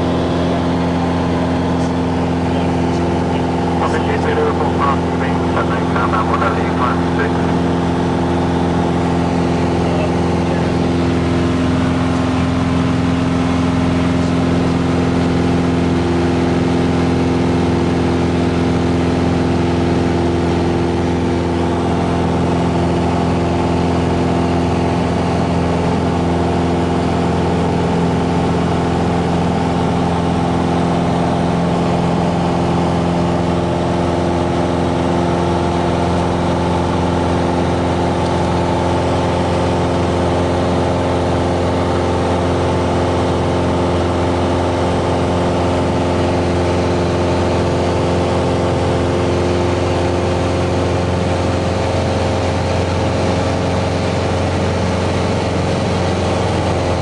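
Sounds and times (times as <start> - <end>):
airplane engine drone in cabin: 0.0 - 57.0.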